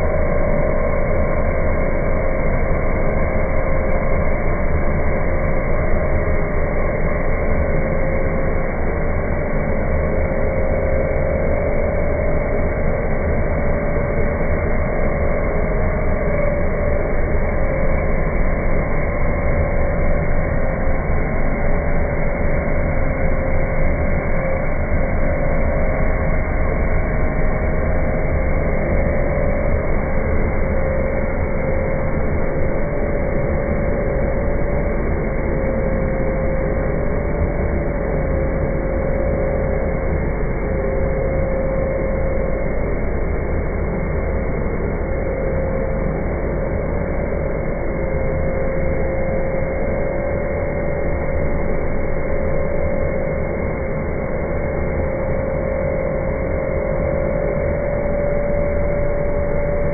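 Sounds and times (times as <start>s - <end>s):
cnc router whining: 0.0s - 59.9s
low machine rumble: 0.0s - 59.9s.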